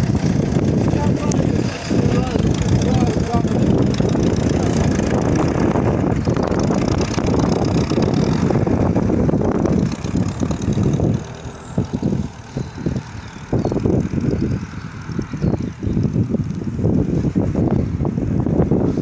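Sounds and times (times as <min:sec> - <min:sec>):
air rushing and rumbling: 0:00.0 - 0:19.0.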